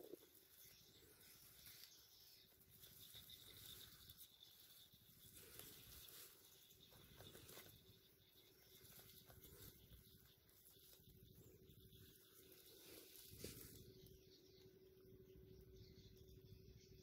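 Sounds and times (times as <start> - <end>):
soft rustles: 0.0 - 14.1
faint steady hum: 0.0 - 17.0.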